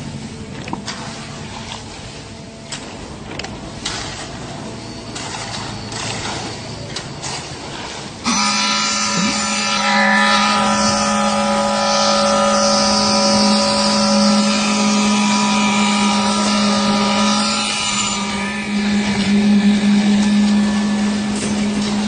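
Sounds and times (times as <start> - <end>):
concrete pump engine drone: 0.0 - 22.0.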